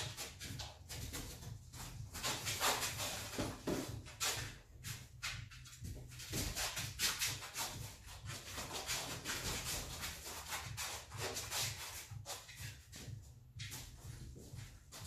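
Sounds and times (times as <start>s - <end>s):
puppy scrabbling on clothing and floor: 0.0s - 15.0s.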